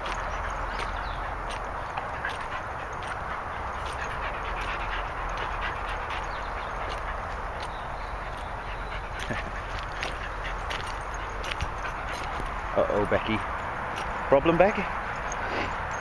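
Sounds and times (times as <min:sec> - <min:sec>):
dogs' feet on grass and leaves: 0:00.0 - 0:16.0.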